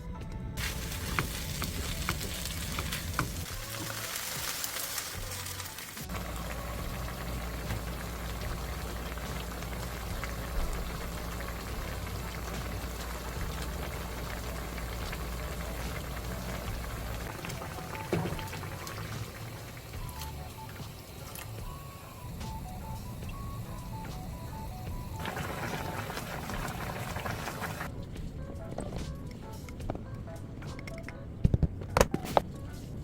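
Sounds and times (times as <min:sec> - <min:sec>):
background music: 0:00.0 - 0:33.0
food sizzling in a pot: 0:00.6 - 0:27.9.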